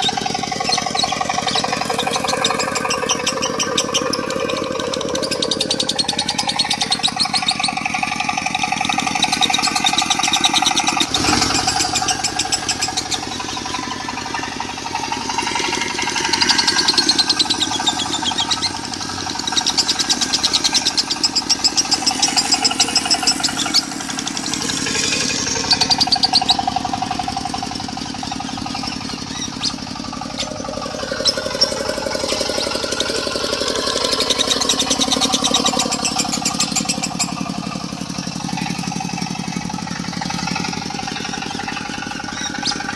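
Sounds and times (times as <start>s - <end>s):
diesel engine knocking: 0.0s - 42.9s
lovebirds trilling: 0.0s - 42.9s.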